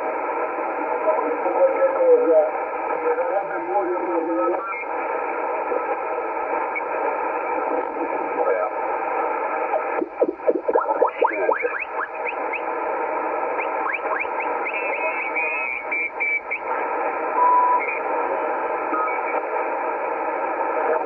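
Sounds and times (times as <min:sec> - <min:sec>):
radio static: 0:00.0 - 0:21.0.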